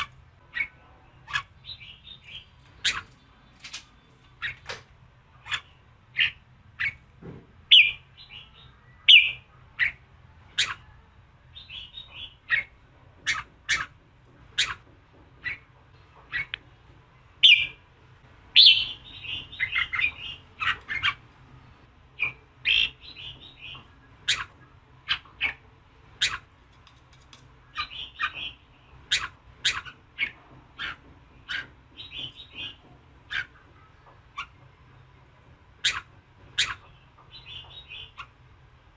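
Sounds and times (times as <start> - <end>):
bird chattering: 0.0 - 7.0, 7.7 - 16.6, 17.4 - 17.8, 18.5 - 21.3, 22.2 - 26.5, 27.6 - 34.7, 35.8 - 38.4.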